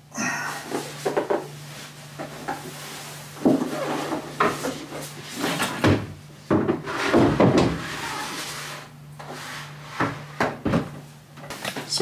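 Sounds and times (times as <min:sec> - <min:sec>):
shelving unit bumping and scraping: 0:00.8 - 0:11.0.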